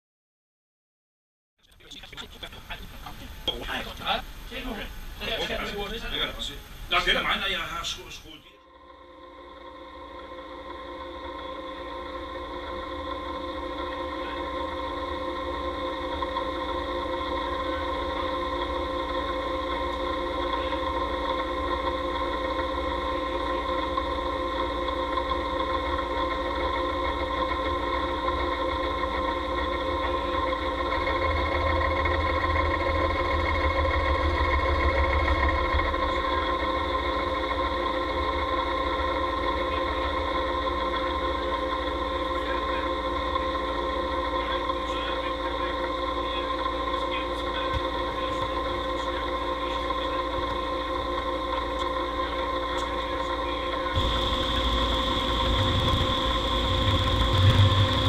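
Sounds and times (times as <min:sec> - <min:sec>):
milling machine humming: 0:09.0 - 0:58.0.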